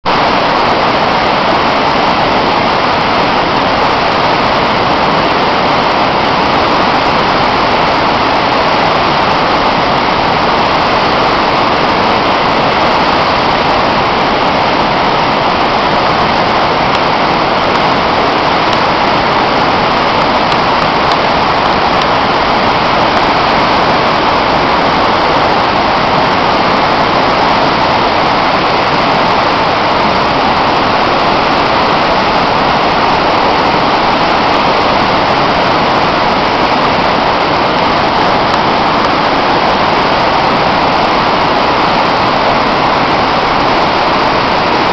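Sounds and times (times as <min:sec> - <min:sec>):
whitewater rushing over rocks: 0:00.0 - 0:44.9.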